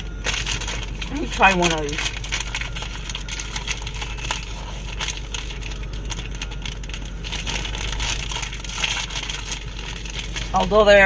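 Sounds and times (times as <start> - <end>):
candy wrapper crinkling: 0.0 - 11.0.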